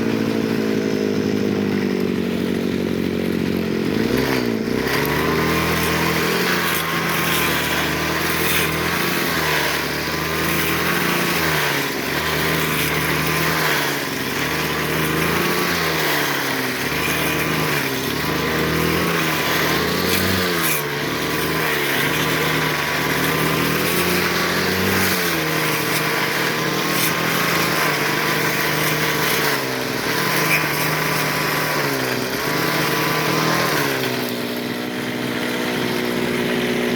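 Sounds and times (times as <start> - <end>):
brush cutter engine cutting brush: 0.0 - 36.9.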